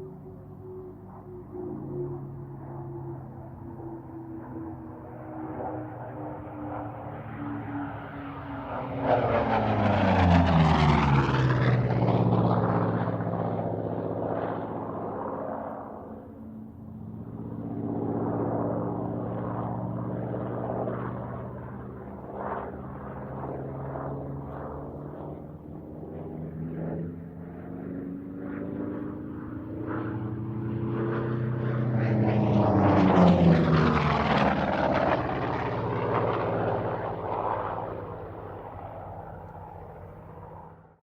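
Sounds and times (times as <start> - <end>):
propeller aircraft flying past: 0.0 - 41.0.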